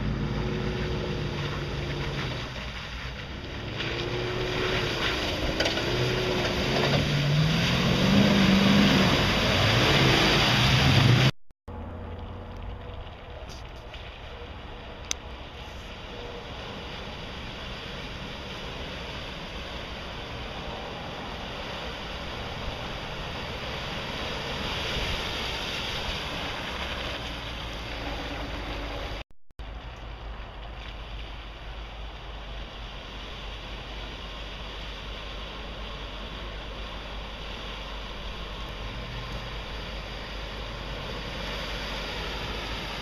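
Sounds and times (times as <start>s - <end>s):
water washing around wheels: 0.0s - 43.0s.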